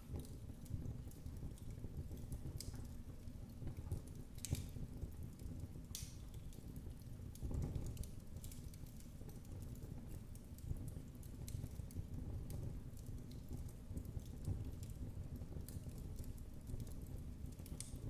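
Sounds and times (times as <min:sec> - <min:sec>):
low rumble of flames: 0:00.0 - 0:18.0
wood fire crackling: 0:00.0 - 0:18.0.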